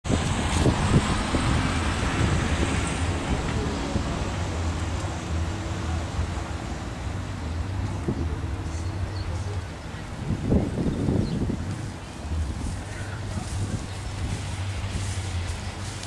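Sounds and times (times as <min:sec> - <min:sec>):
car engine idling: 0:00.1 - 0:16.0.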